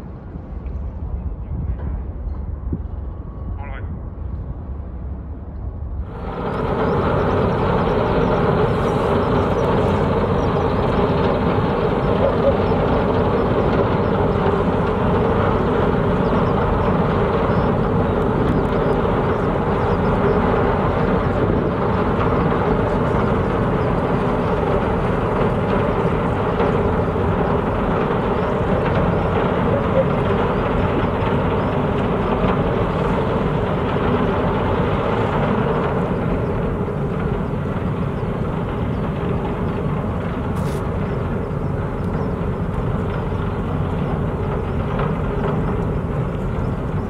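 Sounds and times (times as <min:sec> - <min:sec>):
ship engines droning: 0:00.0 - 0:47.0.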